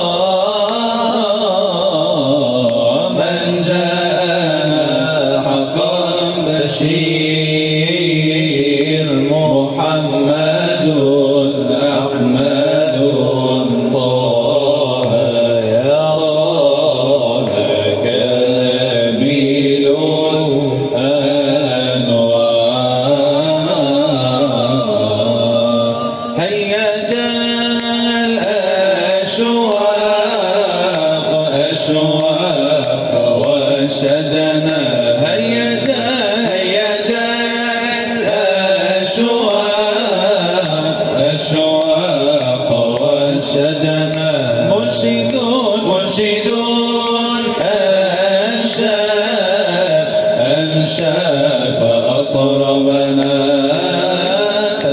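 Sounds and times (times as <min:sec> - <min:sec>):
man chanting: 0:00.0 - 0:54.9.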